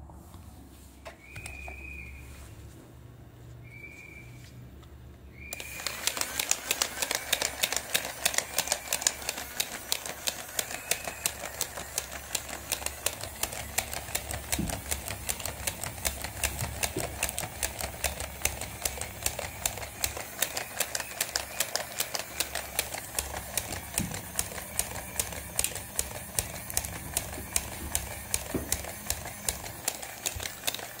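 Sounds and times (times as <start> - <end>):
toy motor and gears clicking: 5.5 - 31.0.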